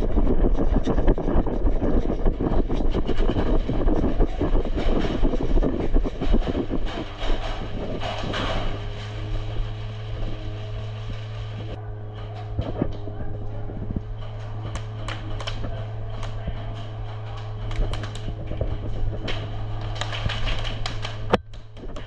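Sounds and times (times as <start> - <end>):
gear knocking: 0.0 - 22.0
steady low hum: 0.0 - 22.0
running footsteps on gravel: 0.1 - 22.0.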